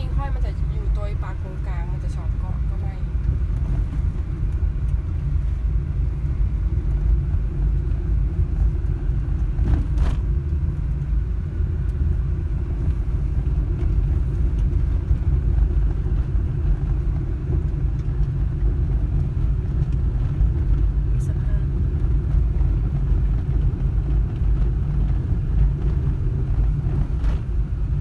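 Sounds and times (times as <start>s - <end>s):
tyres rumbling on dirt road: 0.0s - 28.0s.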